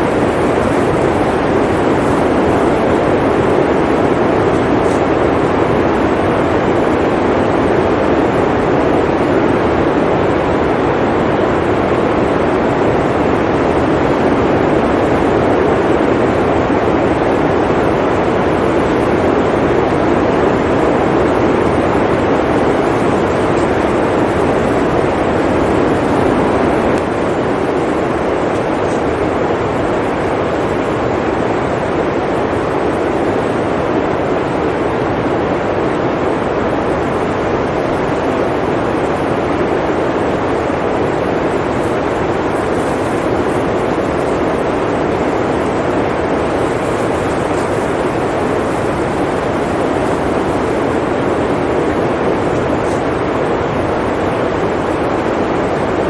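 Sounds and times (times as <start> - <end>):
blizzard wind rushing: 0.0 - 56.0.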